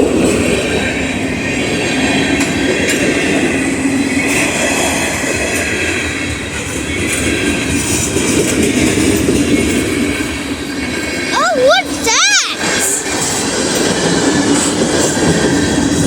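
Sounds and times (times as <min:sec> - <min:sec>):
train wheels rumbling on rail: 0:00.0 - 0:11.3, 0:12.6 - 0:16.0.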